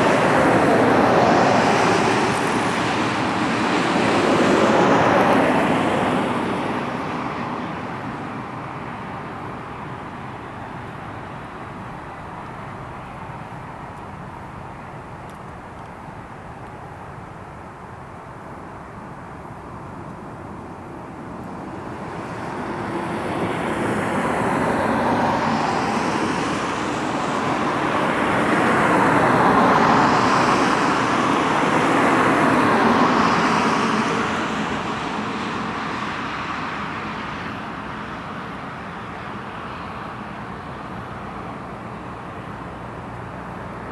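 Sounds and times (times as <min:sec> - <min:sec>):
high jet whine: 0:00.0 - 0:43.9
jet engines roaring: 0:00.0 - 0:43.9.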